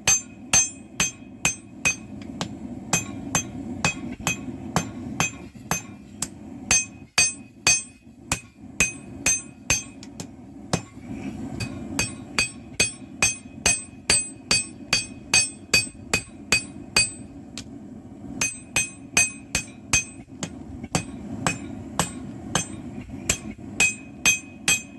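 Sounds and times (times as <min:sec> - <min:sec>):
hammer striking steel on anvil: 0:00.0 - 0:10.9, 0:11.6 - 0:17.7, 0:18.4 - 0:24.9
steady low hum: 0:00.0 - 0:24.9.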